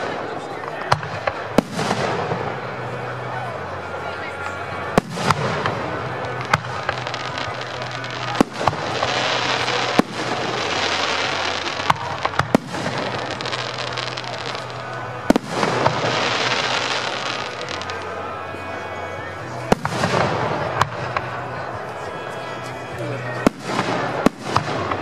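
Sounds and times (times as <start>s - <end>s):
hissing crackle of fireworks: 0.0s - 25.0s.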